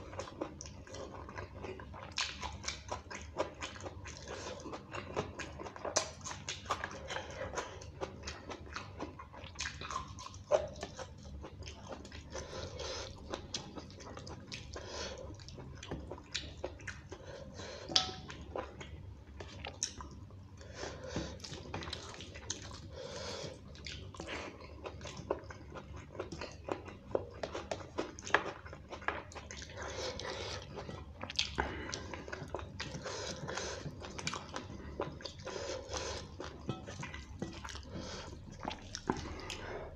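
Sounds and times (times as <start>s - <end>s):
steady low hum: 0.0s - 39.9s
wet chewing and lip-smacking: 0.0s - 39.9s.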